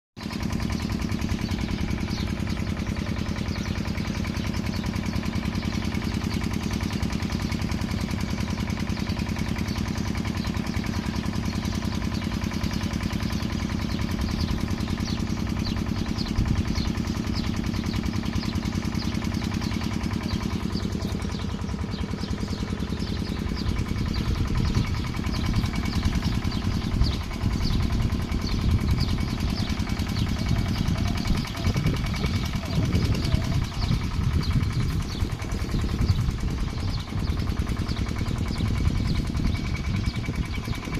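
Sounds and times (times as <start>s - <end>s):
pump engine running: 0.2s - 40.9s.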